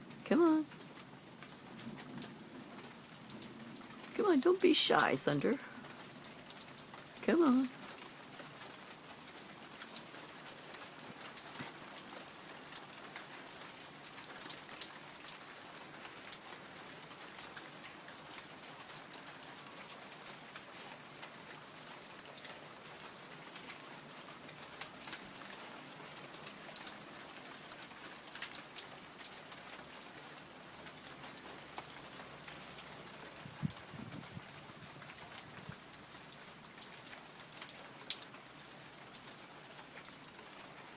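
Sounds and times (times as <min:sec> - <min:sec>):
raindrops ticking on hard surfaces: 0:00.0 - 0:40.9
steady rain falling: 0:00.0 - 0:40.9.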